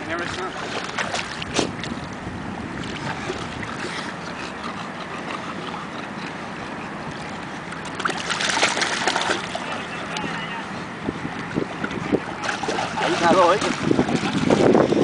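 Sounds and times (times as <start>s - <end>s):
paws splashing in shallow water: 0.0s - 15.0s
wind and water rushing: 0.0s - 15.0s.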